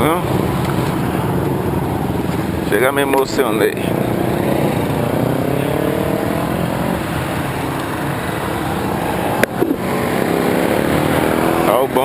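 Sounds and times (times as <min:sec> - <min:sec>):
motorcycle engine running: 0:00.0 - 0:12.0
road noise rushing: 0:00.0 - 0:12.0.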